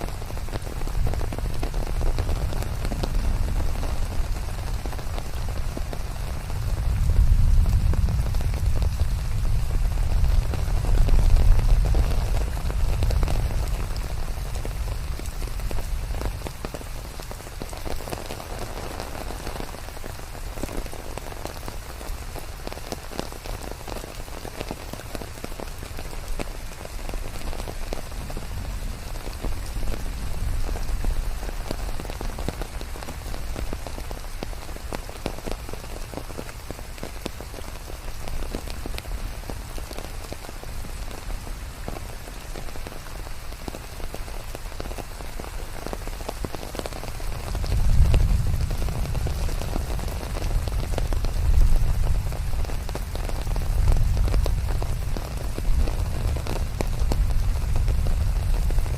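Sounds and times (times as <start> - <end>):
steady rain with ticking drops: 0.0 - 58.9.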